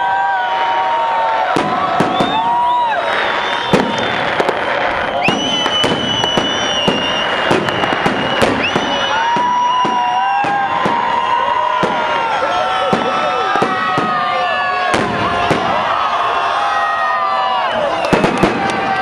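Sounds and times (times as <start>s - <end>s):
crowd voices: 0.0s - 19.0s
fireworks bangs and crackling: 0.0s - 19.0s
whistling fireworks: 0.0s - 19.0s.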